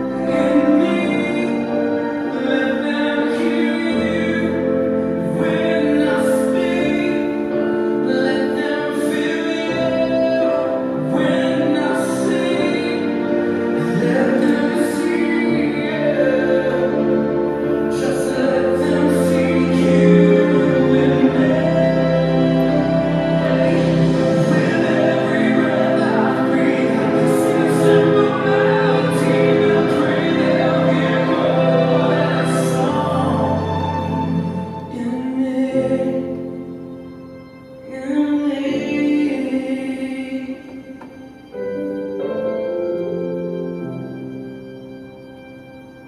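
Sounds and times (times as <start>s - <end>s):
person singing: 0.0s - 44.2s
sustained accompanying chords: 0.0s - 46.0s.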